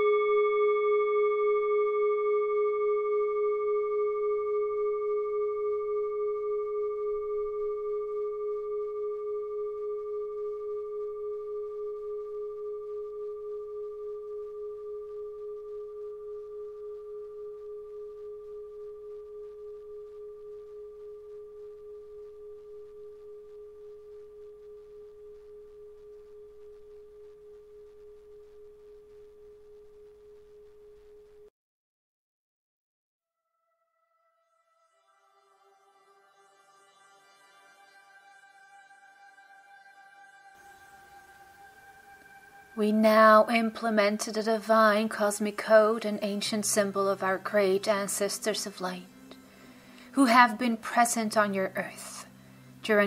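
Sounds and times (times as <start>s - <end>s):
singing bowl ringing: 0.0s - 31.5s, 33.7s - 53.0s.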